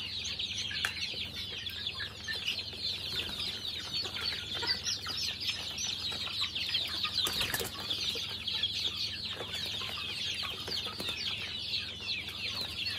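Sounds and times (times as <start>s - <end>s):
chicks peeping: 0.0s - 12.9s.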